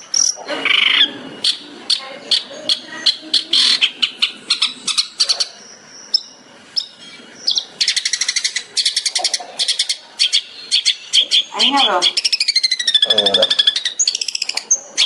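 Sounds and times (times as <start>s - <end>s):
bird whistled notes: 0.1s - 15.0s.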